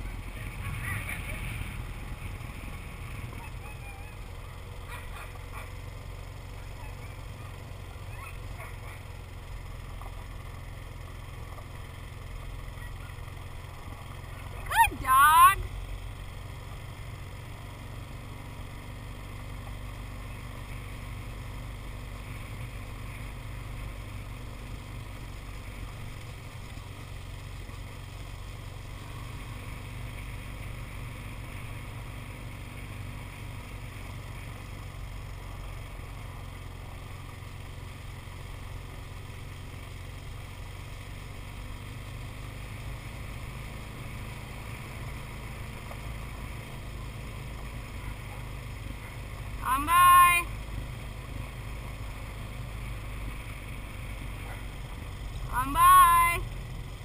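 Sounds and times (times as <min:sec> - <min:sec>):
atv engine hum: 0:00.0 - 0:57.0.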